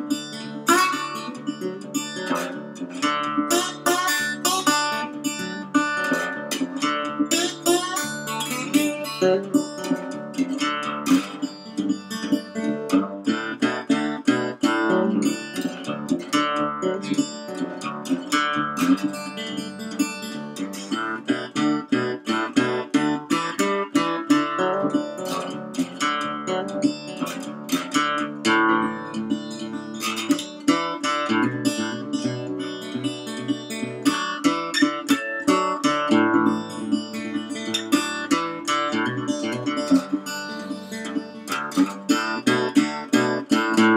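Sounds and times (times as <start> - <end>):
slide resonator guitar fingerpicked: 0.0 - 43.9.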